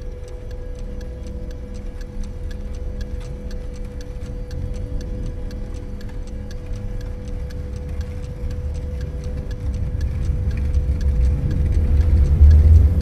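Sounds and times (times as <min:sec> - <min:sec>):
background music with ticking beat: 0:00.0 - 0:13.0.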